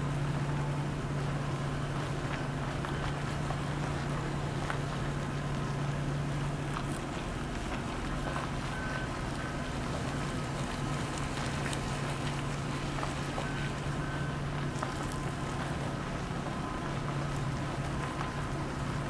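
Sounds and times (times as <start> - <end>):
heavy equipment engine hum: 0.0 - 19.0.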